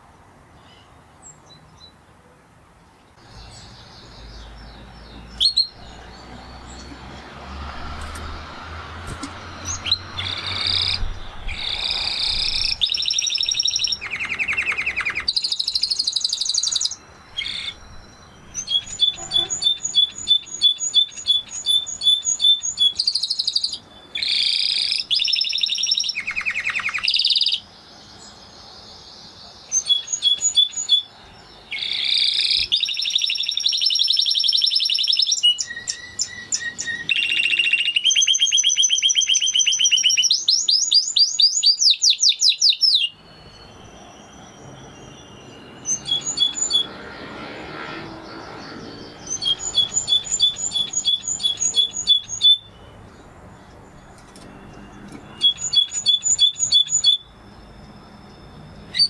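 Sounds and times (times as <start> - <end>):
canary singing trills: 3.1 - 59.0.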